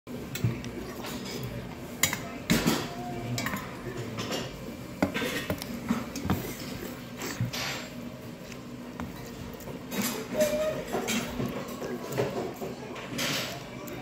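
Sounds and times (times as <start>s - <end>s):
utensils clinking against metal bowl: 0.3s - 8.0s, 9.0s - 14.0s.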